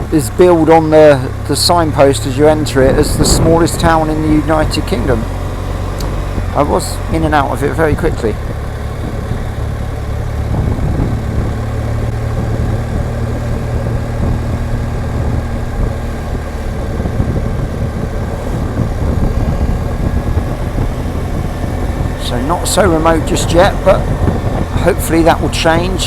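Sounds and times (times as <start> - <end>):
continuous rushing noise: 0.0 - 26.0
motorcycle engine running: 0.0 - 26.0.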